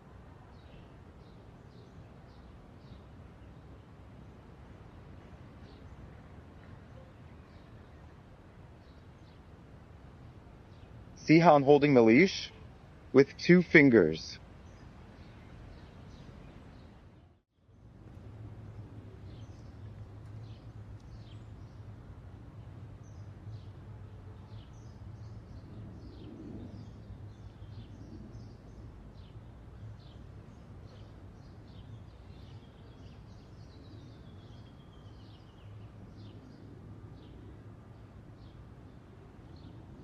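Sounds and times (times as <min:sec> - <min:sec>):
small birds chirping: 0:05.6 - 0:09.6, 0:10.2 - 0:17.8, 0:19.2 - 0:40.0.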